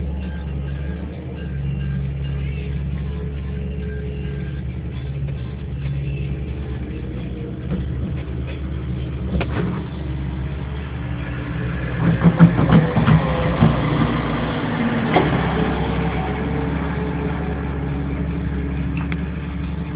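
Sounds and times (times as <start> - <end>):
diesel truck engine droning: 0.0 - 19.9.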